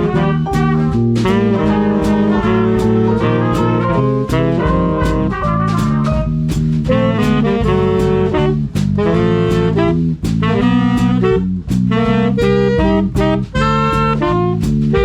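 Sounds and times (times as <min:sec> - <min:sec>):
drum and cymbal strikes: 0:00.0 - 0:15.0
swing band playing jazz: 0:00.0 - 0:15.0.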